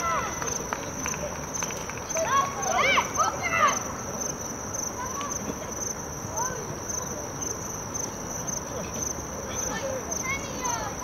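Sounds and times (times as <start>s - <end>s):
crickets chirping: 0.0s - 11.0s
faint distant voices: 0.0s - 11.0s.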